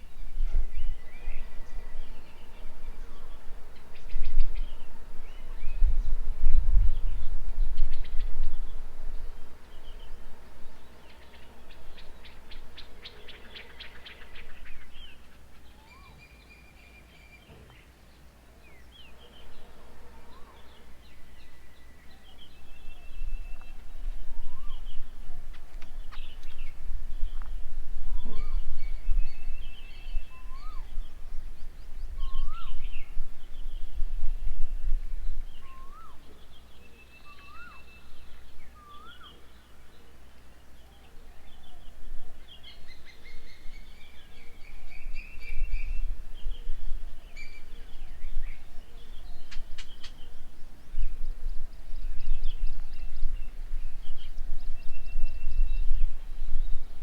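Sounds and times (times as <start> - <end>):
birds calling and chirping: 0.0 - 57.0.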